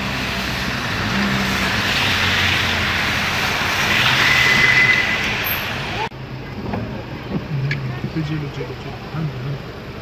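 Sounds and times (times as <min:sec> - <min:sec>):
car engines running: 0:00.0 - 0:10.0
car tyres through floodwater: 0:00.0 - 0:10.0
rain: 0:00.0 - 0:10.0.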